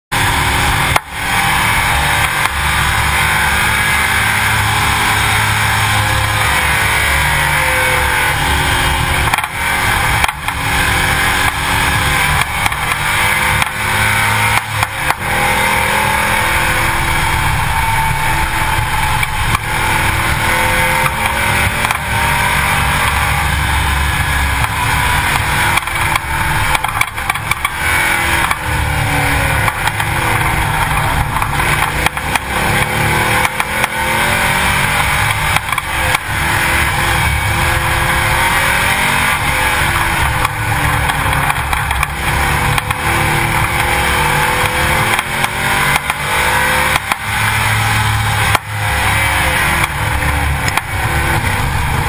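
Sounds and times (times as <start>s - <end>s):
vehicle engine: 0.0s - 52.0s
wind and road noise: 0.1s - 52.0s.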